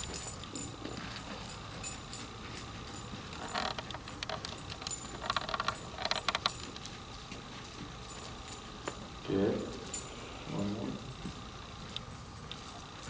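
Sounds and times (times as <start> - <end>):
dog collar metal jingling: 0.0 - 11.2, 11.8 - 13.0.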